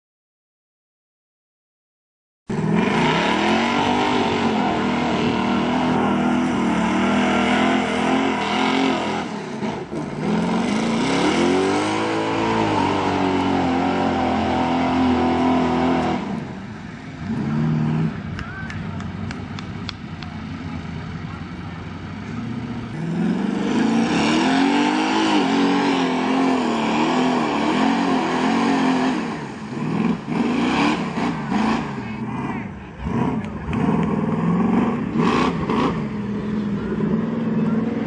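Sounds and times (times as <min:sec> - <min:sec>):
truck engine revving: 0:02.5 - 0:38.0.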